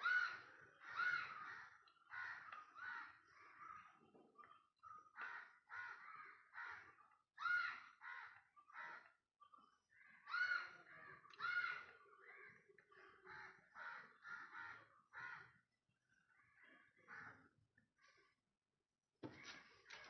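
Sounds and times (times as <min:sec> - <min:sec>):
faint bird calls: 0:00.0 - 0:18.4.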